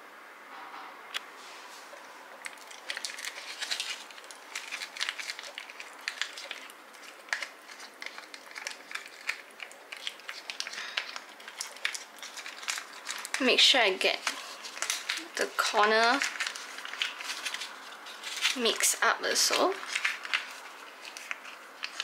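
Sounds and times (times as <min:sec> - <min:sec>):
foil sachet crinkling: 0:01.9 - 0:22.0.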